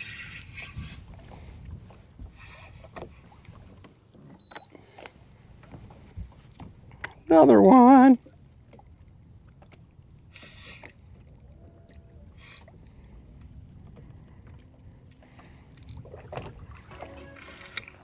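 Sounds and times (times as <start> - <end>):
fishing rod and reel clicks: 0.0 - 5.5, 7.9 - 16.2, 17.1 - 18.0.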